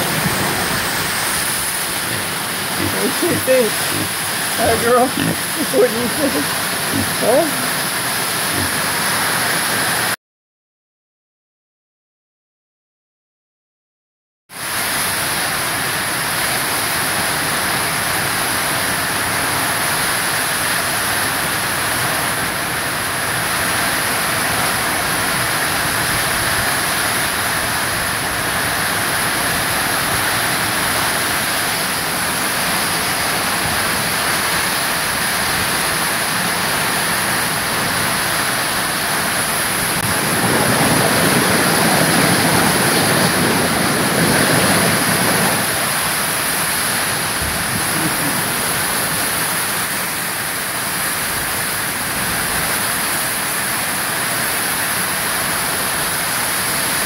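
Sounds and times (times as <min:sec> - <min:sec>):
heavy rain pouring: 0:00.0 - 0:10.2, 0:14.6 - 0:57.0.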